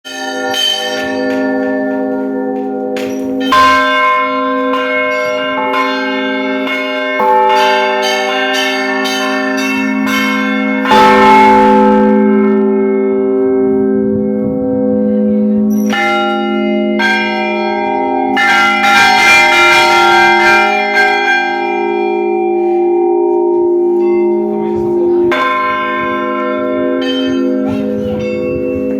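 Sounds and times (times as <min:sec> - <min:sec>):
large bells ringing: 0:00.0 - 0:28.9.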